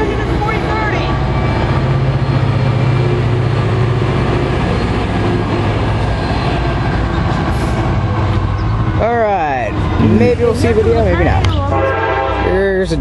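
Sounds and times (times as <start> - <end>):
diesel locomotive engine drone: 0.0 - 13.0
train rumble: 0.0 - 13.0.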